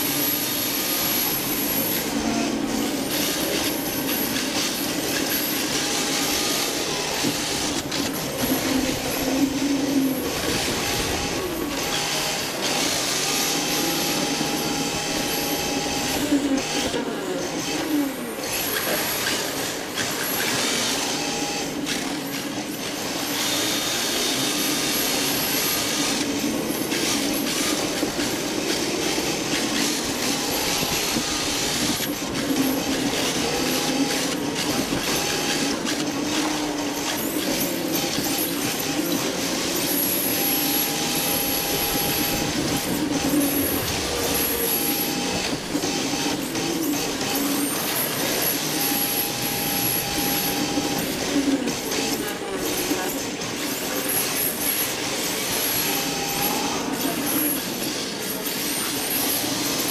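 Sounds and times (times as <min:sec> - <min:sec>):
electric motor whining: 0:00.0 - 0:22.2, 0:23.0 - 0:58.2.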